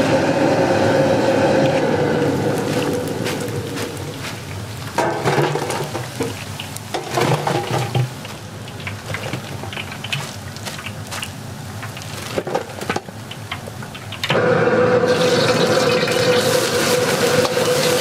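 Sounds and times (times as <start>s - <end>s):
deep-frying oil sizzling and crackling: 0.0s - 18.0s.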